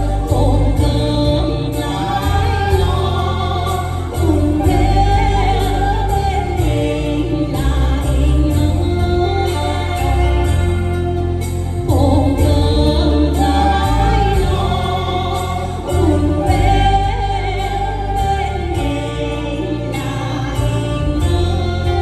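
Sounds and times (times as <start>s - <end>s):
voices singing together: 0.0s - 11.0s, 11.8s - 22.0s
instrumental accompaniment with beat: 0.0s - 22.0s.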